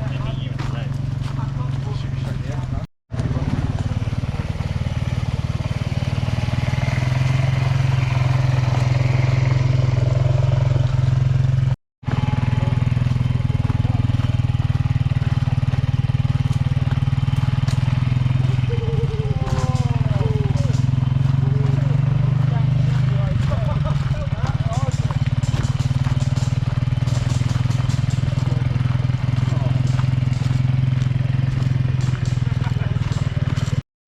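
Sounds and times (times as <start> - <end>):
vehicle engine droning: 0.0 - 33.8.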